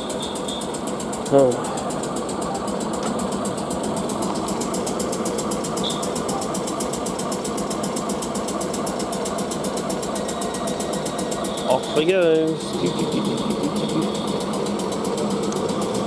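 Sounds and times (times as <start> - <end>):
fast even pulsing beat: 0.0 - 16.0
train equipment mechanical hum: 0.0 - 16.0.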